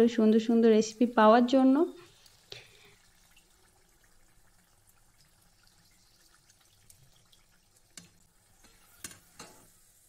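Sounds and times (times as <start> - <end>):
faint hot oil crackle: 1.8 - 10.0.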